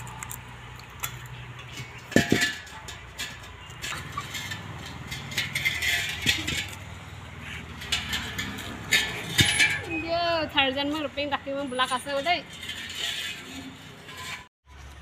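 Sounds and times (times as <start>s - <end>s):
gas cylinder scraping on concrete: 1.4s - 14.5s.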